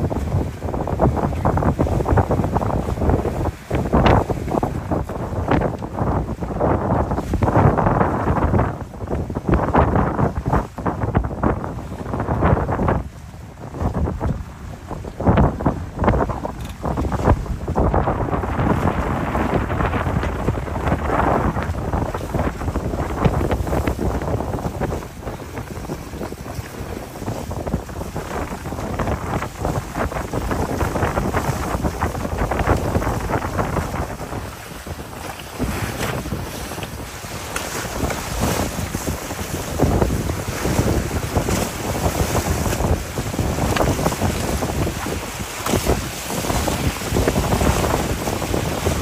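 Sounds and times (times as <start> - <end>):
water splashing along a hull: 0.0 - 49.0
wind buffeting the microphone: 0.0 - 49.0.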